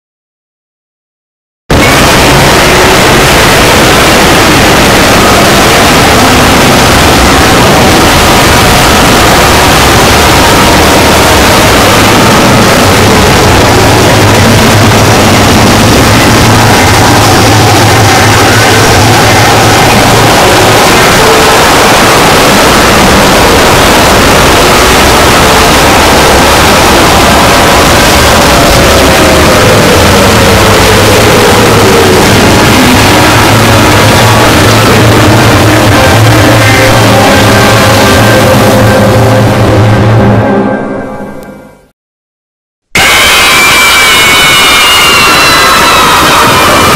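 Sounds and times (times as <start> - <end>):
distorted wall of noise: 1.7 - 41.9, 42.9 - 46.9.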